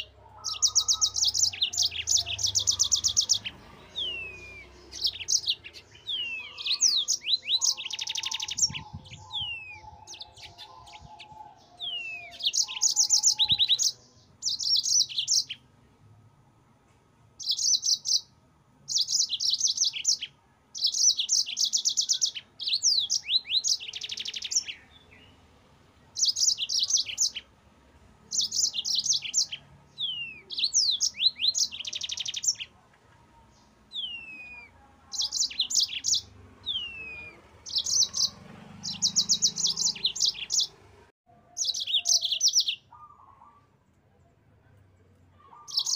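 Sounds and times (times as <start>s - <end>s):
canary singing trills and whistles: 0.0s - 15.6s, 17.4s - 18.3s, 18.9s - 25.4s, 26.2s - 27.5s, 28.3s - 32.8s, 33.7s - 40.8s, 41.5s - 43.7s, 45.4s - 45.9s.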